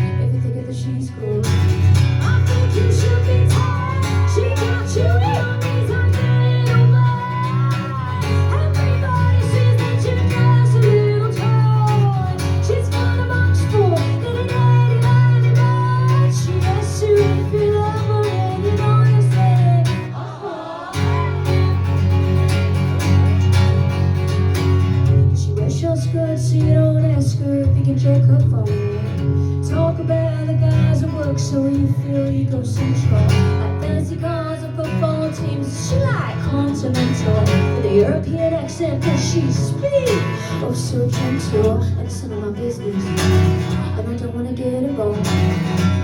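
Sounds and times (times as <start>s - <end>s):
strummed guitar: 0.0s - 46.0s.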